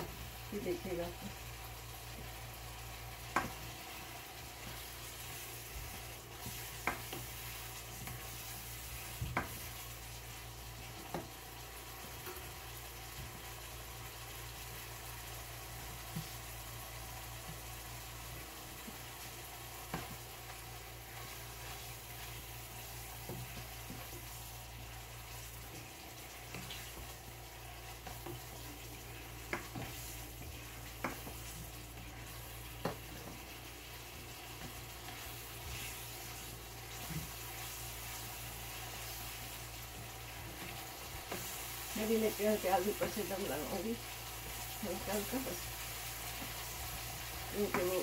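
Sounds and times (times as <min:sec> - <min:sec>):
sauce sizzling in a wok: 0:00.0 - 0:48.0.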